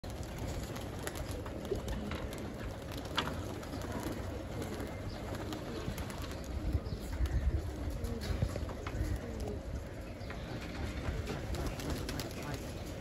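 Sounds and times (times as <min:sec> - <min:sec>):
pigeons cooing: 0:00.1 - 0:13.0.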